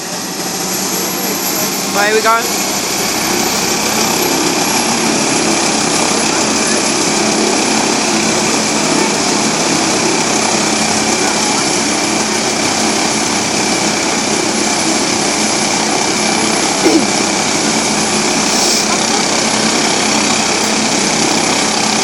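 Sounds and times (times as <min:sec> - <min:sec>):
helicopter turbine engine running: 0:00.0 - 0:22.0.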